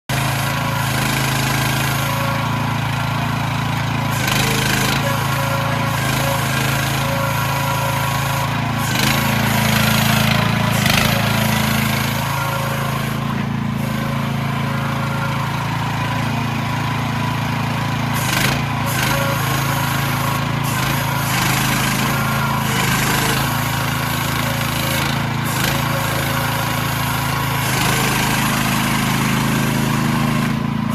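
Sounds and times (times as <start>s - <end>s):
small engine running steadily: 0.1s - 30.9s.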